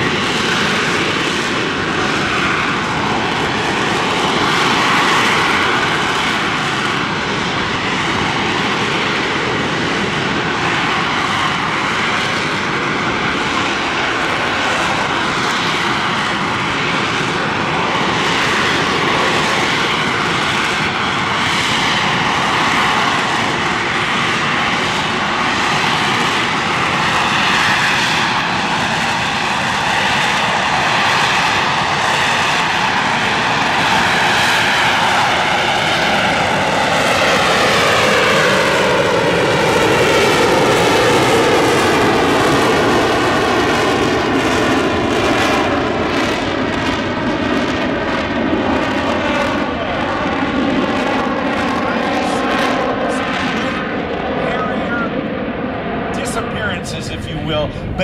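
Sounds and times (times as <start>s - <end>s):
jet engine roaring: 0.0s - 58.0s.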